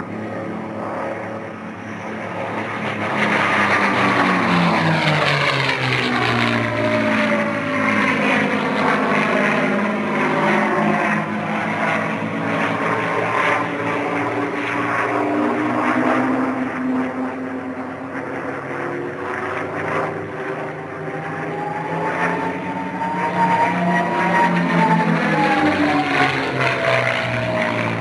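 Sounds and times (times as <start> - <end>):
propeller aircraft engines droning: 0.0 - 28.0.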